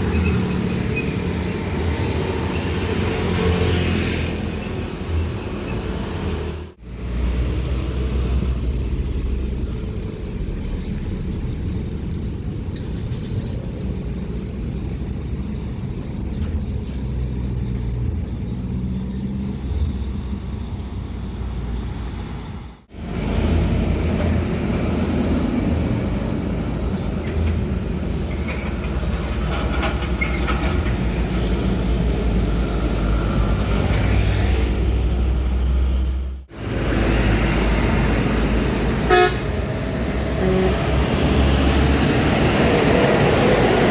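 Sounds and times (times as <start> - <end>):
diesel truck engines rumbling: 0.0 - 43.9.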